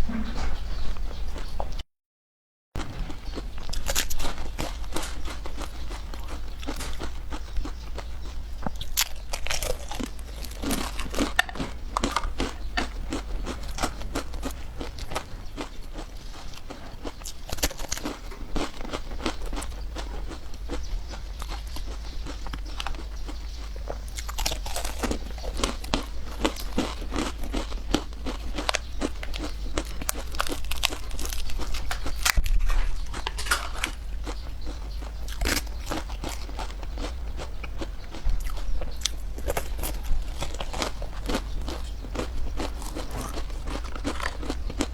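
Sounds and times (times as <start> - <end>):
person chewing crunchy food: 0.5 - 1.8, 2.8 - 44.9.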